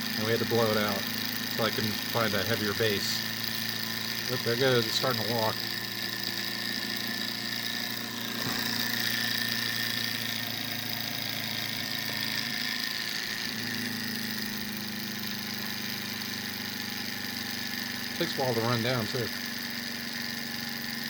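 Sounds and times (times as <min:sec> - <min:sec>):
small engine mechanical whir: 0:00.0 - 0:21.0.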